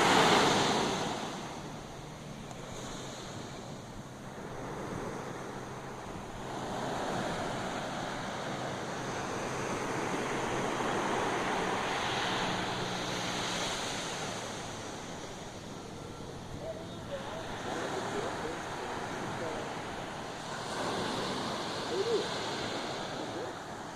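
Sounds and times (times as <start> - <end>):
sea waves breaking on beach: 0.0 - 23.9.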